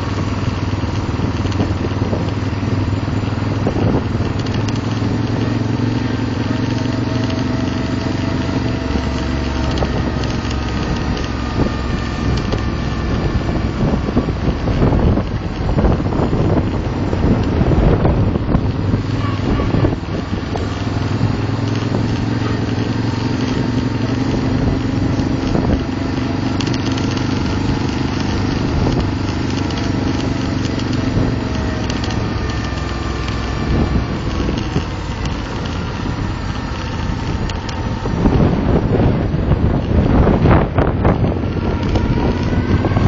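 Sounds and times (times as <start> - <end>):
motorcycle engine cruising: 0.0 - 43.0
wind rushing over microphone: 0.0 - 43.0.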